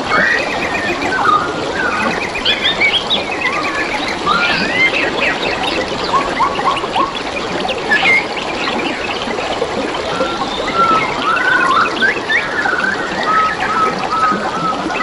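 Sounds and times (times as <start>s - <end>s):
water trickling: 0.0s - 15.0s
birds chirping and whistling: 0.1s - 9.2s, 10.1s - 15.0s.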